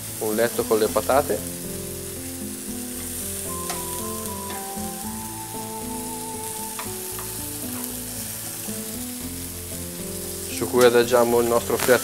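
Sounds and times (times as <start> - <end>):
oil sizzling in a frying pan: 0.0 - 12.0
soft background music: 0.0 - 12.0.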